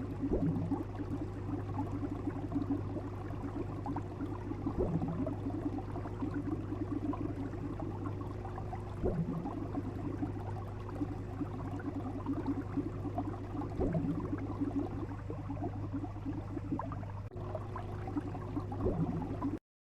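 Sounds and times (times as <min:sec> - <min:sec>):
low constant hum: 0:00.0 - 0:19.6
water bubbling and gurgling: 0:00.0 - 0:19.6.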